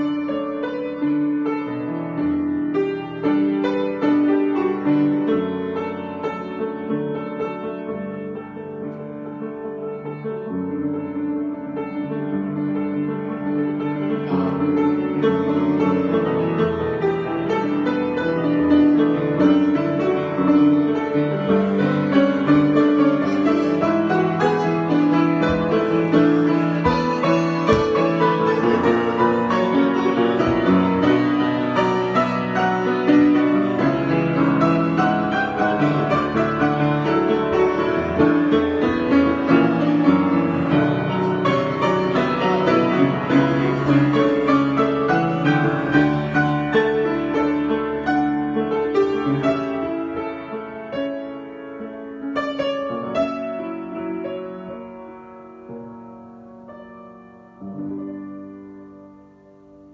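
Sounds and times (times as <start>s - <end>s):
solo piano improvisation: 0.0s - 59.9s.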